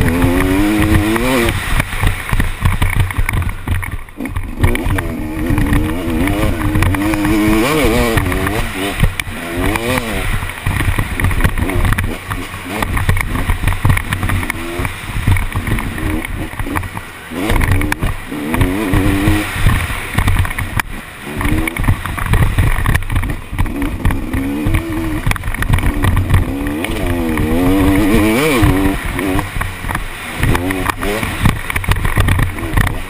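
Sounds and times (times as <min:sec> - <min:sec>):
motocross engine revving: 0:00.0 - 0:33.0
wind rumble on microphone: 0:00.0 - 0:33.0.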